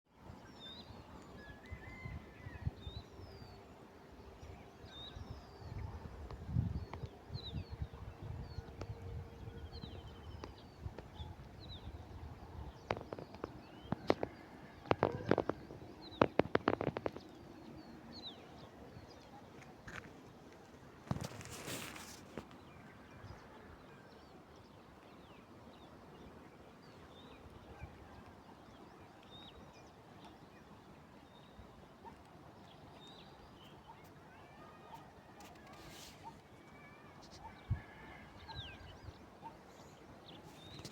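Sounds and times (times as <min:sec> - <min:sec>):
faint outdoor ambience: 0:00.1 - 0:40.9.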